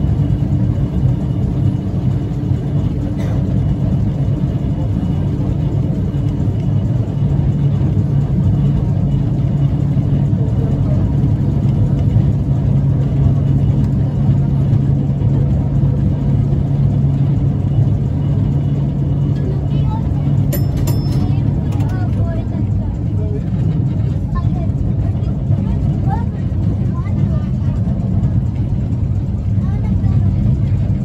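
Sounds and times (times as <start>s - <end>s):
tram motor hum: 0.0s - 31.0s
tram wheels rumbling: 0.0s - 31.0s.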